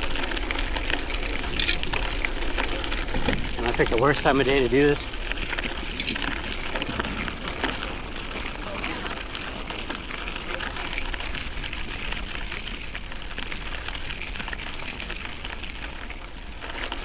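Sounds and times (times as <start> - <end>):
bicycle tyres on road: 0.0 - 17.0.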